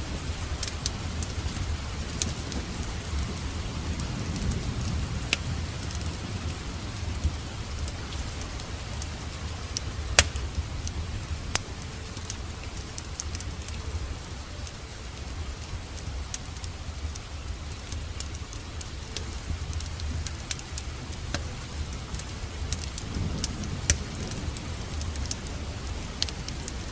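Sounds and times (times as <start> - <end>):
steady rain: 0.0 - 26.9
wood fire crackling and popping: 0.0 - 26.9.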